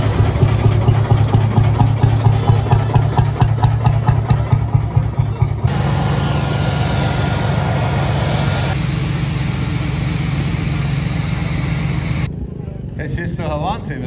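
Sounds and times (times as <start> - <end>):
racing car engine running loud: 0.0 - 12.3.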